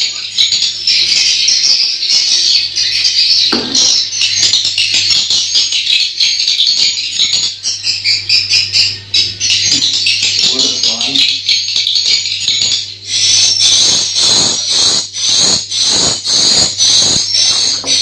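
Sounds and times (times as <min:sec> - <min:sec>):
swiftlets twittering: 0:00.0 - 0:18.0.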